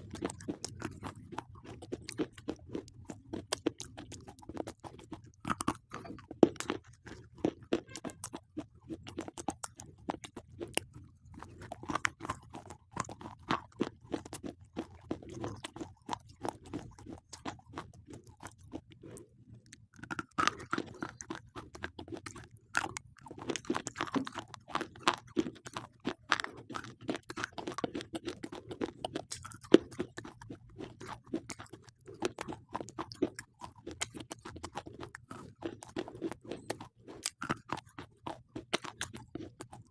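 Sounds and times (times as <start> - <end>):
chewing crunchy pencils: 0.0 - 39.9.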